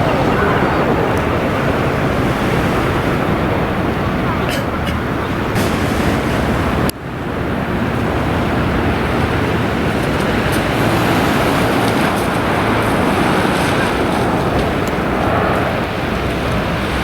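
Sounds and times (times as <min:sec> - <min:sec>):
jet airliner landing: 0:00.0 - 0:17.0.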